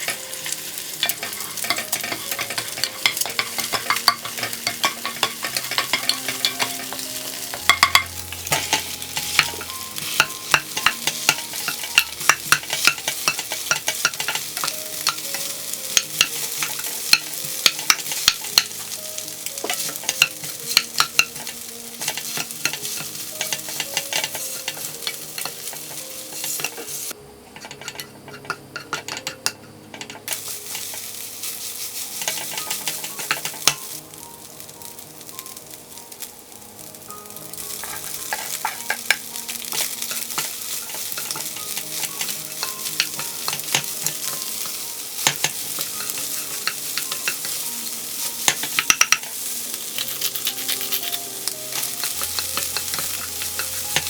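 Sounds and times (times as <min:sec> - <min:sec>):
spatula scraping a pan: 0:00.0 - 0:34.0, 0:37.4 - 0:54.0
rice sizzling in a pan: 0:00.0 - 0:54.0.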